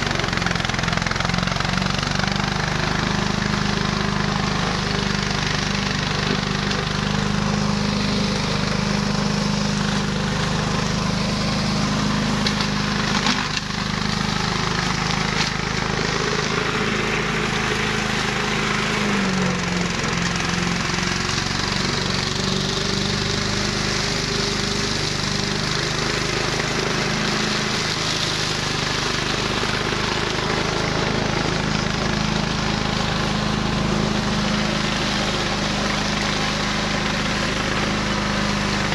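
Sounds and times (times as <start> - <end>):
flail mower engine running: 0.0 - 38.9.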